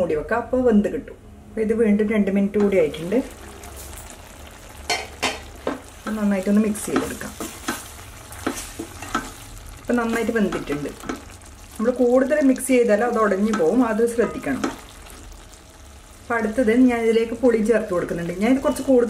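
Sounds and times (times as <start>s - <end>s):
curry simmering sizzle: 2.6s - 19.0s.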